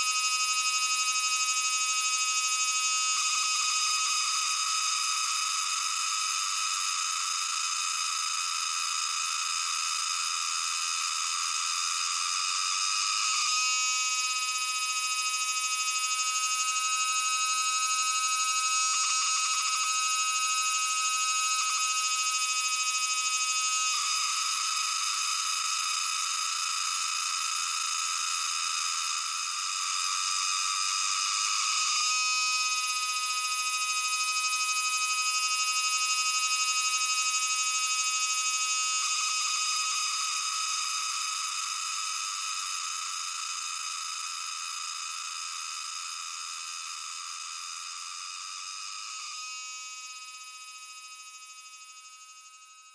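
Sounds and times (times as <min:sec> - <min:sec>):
cicada shrill buzzing song: 0:00.0 - 0:52.9.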